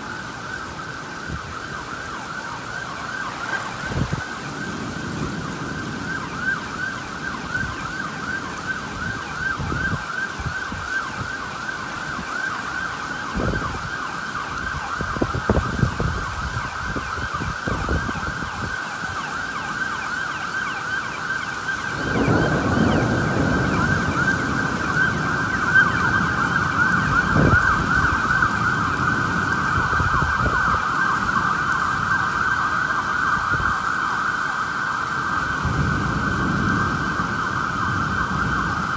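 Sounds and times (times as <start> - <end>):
emergency vehicle siren yelping: 0.0 - 38.9
rain: 0.0 - 38.9
wind: 0.0 - 38.9.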